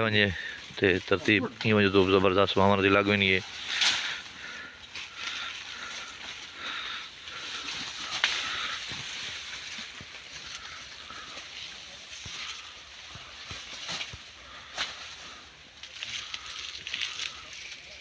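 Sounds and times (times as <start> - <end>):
cloth and dry leaves rustling: 0.0 - 18.0.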